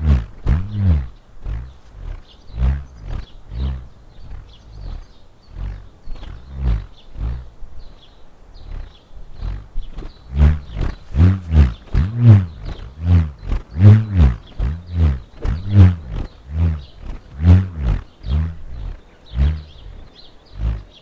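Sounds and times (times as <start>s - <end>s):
bullroarer pulsing roar: 0.0s - 21.0s.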